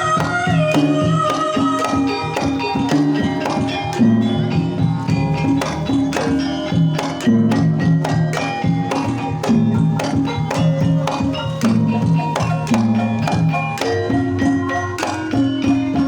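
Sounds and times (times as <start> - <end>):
gamelan music: 0.0 - 16.0
hand drum rhythm: 0.0 - 16.0.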